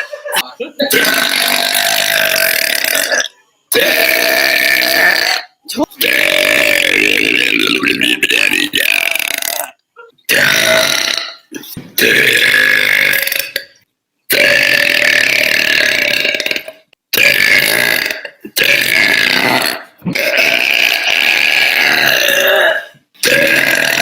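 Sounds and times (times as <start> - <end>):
woman burping loudly: 0.0 - 24.0.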